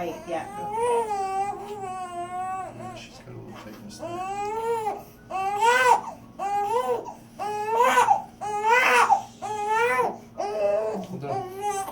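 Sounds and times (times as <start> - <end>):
newborn baby crying: 0.0 - 3.1, 4.0 - 11.9.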